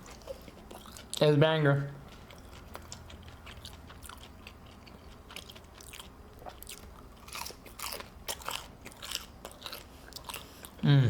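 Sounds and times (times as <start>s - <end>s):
crunchy chewing: 0.0s - 1.4s, 2.0s - 10.8s.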